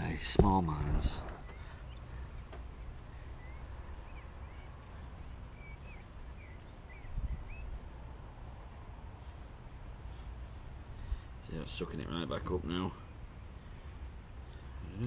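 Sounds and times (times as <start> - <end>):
steady low rumble: 0.0 - 12.2
birds chirping: 0.0 - 15.0.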